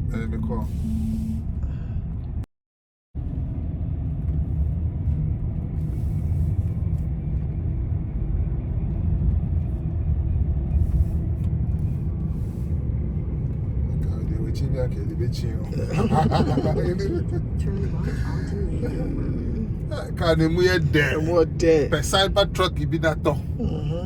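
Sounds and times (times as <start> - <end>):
vehicle road and wind noise: 0.0 - 2.5, 3.2 - 24.0.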